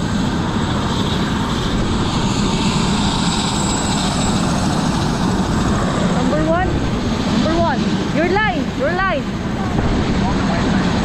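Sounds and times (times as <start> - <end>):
helicopter rotor and engine: 0.0 - 11.0
high turbine whine: 0.0 - 11.0.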